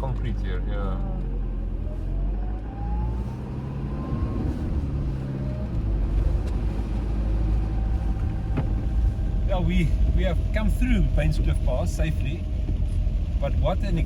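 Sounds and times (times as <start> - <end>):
car rumble on wet road: 0.0 - 14.0.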